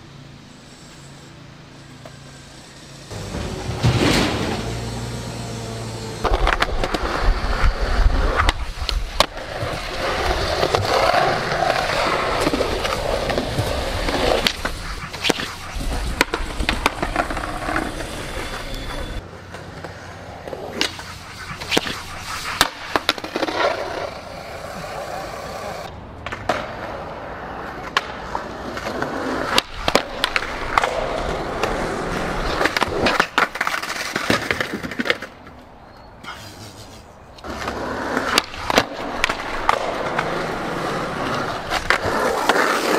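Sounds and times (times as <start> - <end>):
skateboard wheels rolling on pavement: 0.0 - 42.9
skateboard clacks: 6.2 - 35.6, 37.4 - 42.9.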